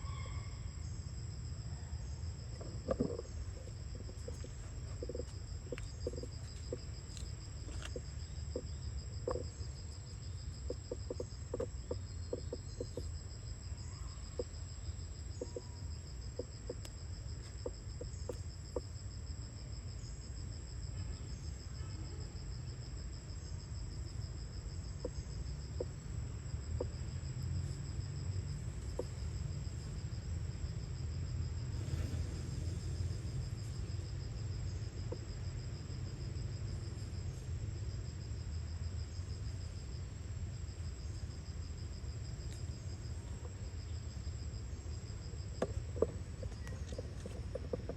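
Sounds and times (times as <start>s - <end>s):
insects trilling: 0.0s - 47.9s.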